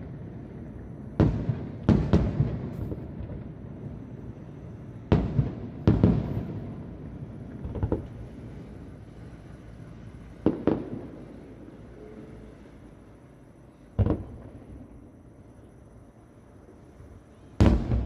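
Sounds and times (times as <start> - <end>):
distant fireworks bursting: 0.0 - 15.4, 17.0 - 18.0.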